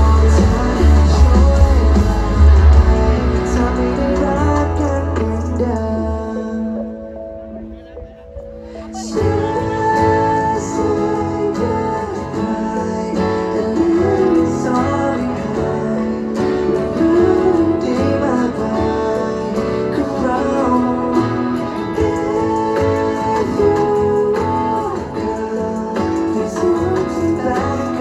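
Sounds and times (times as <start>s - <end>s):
live band with singer: 0.0s - 28.0s.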